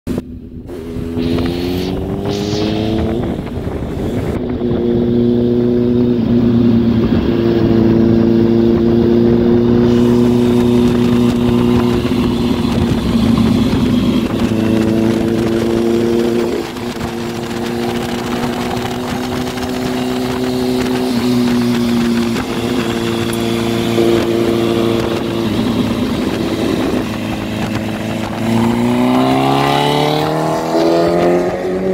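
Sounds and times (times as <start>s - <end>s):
motorcycle engine running: 0.1s - 31.9s.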